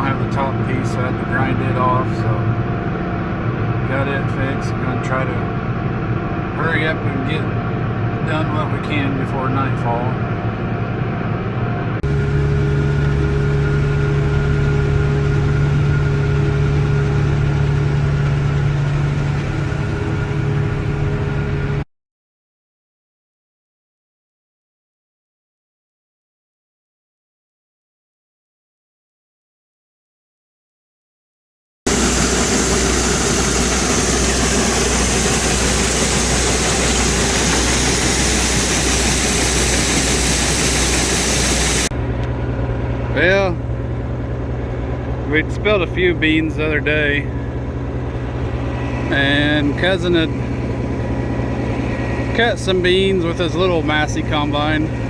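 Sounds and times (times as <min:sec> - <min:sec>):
farm machine engine droning: 0:00.0 - 0:21.8, 0:31.9 - 0:55.0.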